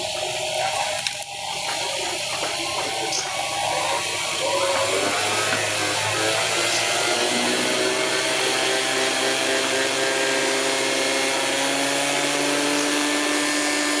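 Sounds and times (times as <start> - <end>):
grinding machine motor hum: 0.0 - 14.0.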